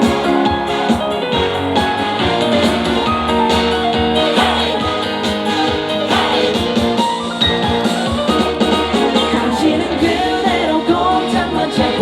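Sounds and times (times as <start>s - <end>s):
instrumental pop music over speakers: 0.0s - 12.0s.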